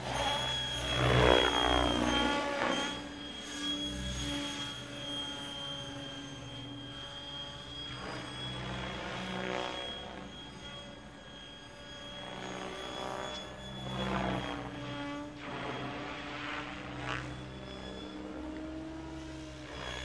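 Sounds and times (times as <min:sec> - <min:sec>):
rc helicopter rotor and motor whine: 0:00.0 - 0:20.0.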